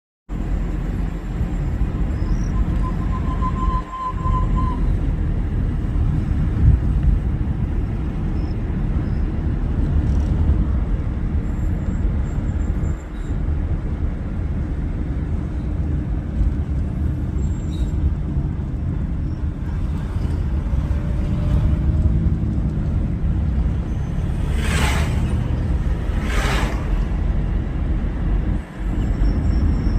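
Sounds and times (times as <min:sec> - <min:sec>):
bus engine and road rumble: 0:00.3 - 0:29.9.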